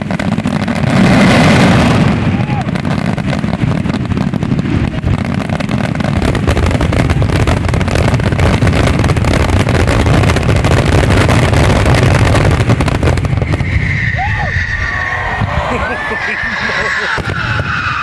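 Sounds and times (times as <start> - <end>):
firework crackle: 0.0 - 18.0
firework shells booming: 0.0 - 18.0.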